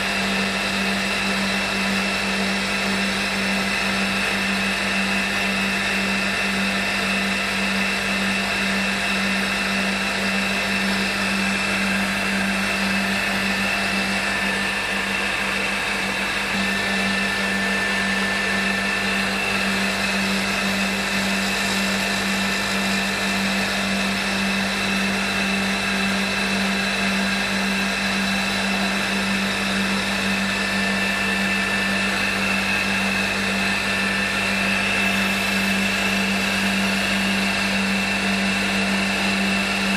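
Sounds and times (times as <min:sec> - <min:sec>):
milling machine spindle whining: 0:00.0 - 0:39.9.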